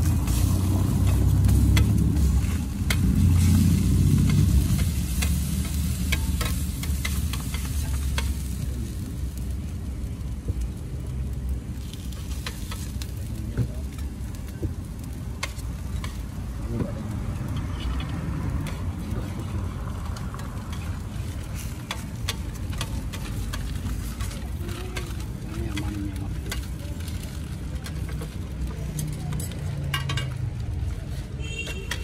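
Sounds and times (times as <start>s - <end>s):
burgers sizzling on griddle: 0.0s - 32.0s.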